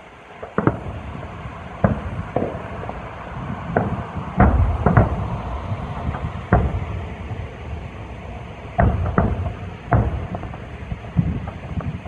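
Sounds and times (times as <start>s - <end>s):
firework shells booming: 0.3s - 12.0s.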